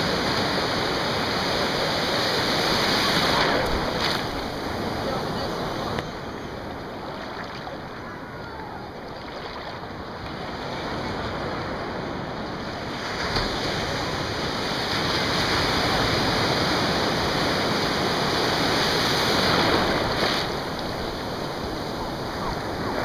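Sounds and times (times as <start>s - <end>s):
waves breaking in surf: 0.0s - 23.0s.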